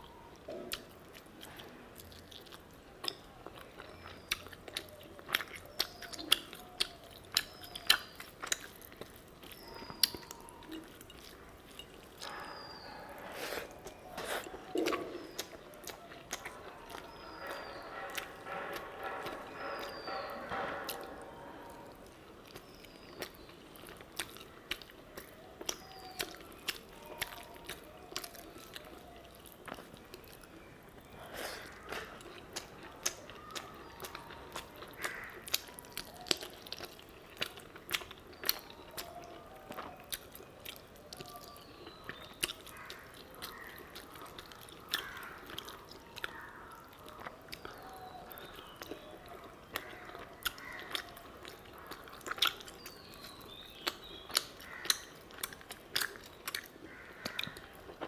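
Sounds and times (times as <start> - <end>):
close chewing with mouth clicks: 0.0 - 58.0.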